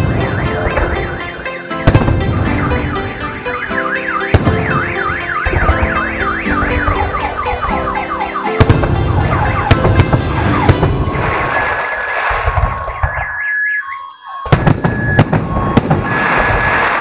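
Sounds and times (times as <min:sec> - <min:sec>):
fireworks bangs and crackles: 0:00.0 - 0:03.3, 0:04.0 - 0:13.8, 0:14.4 - 0:17.0
car alarm wailing: 0:00.0 - 0:16.6.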